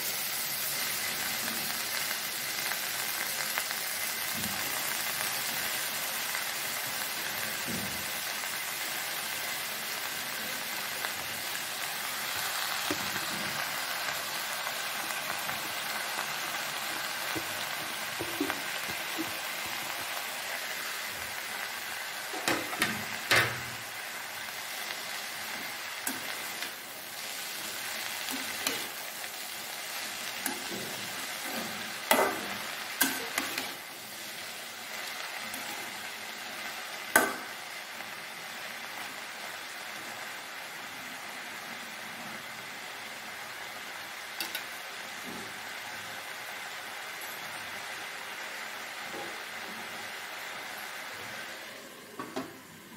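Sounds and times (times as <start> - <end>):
vegetables sizzling in a wok: 0.0 - 52.9.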